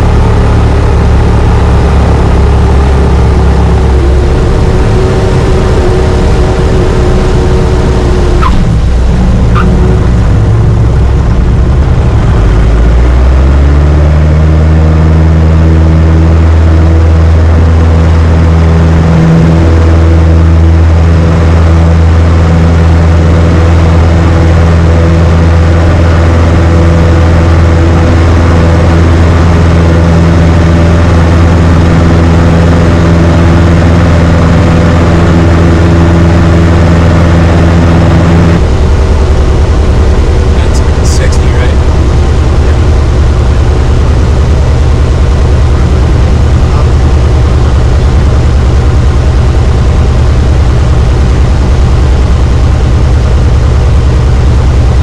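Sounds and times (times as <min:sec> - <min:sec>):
low rumble: 0:00.0 - 0:55.0
propeller engine drone: 0:00.0 - 0:55.0.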